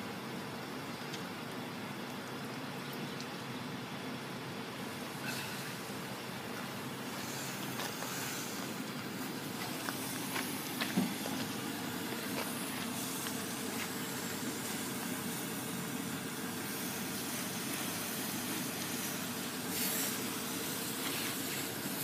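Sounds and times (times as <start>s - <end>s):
faint steady hum: 0.0s - 22.0s
rushing outdoor background noise: 0.0s - 22.0s.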